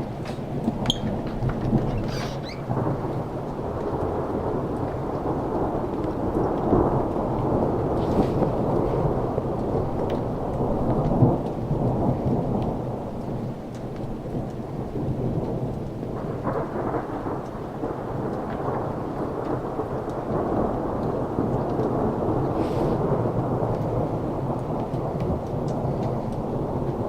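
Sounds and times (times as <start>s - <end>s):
rain falling: 0.0s - 27.0s
rolling thunder: 0.0s - 27.0s.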